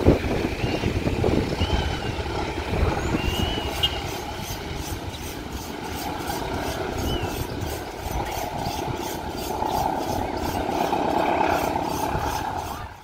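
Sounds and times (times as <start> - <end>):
train rumble and rail noise: 0.0 - 13.0.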